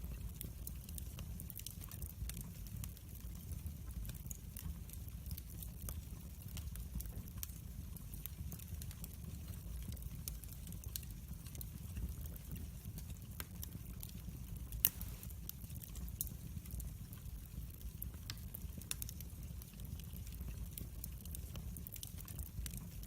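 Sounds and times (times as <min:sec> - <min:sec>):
fire crackles and pops: 0:00.0 - 0:23.0
wood fire burning: 0:00.0 - 0:23.0.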